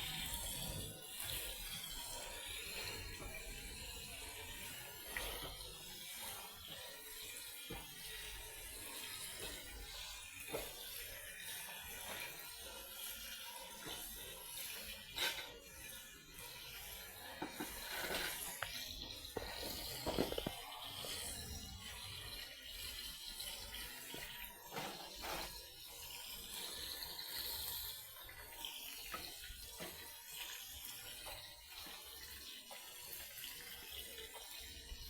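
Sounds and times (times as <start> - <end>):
water running and splashing: 0.0 - 35.0.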